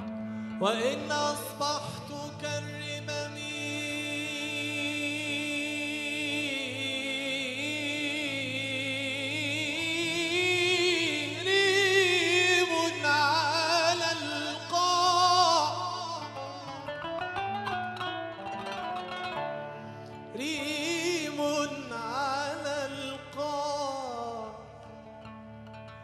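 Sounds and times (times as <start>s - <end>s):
man singing with vibrato: 0.6s - 25.2s.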